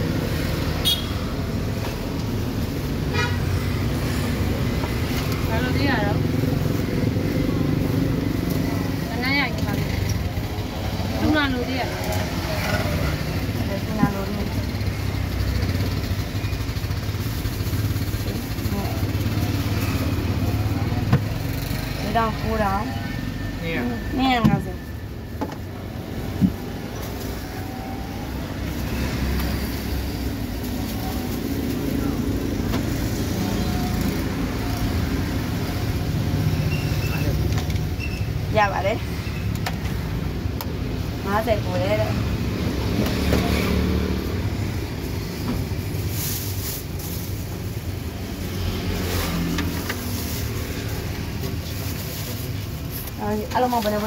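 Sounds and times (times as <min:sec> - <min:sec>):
street background rumble: 0:00.0 - 0:54.0.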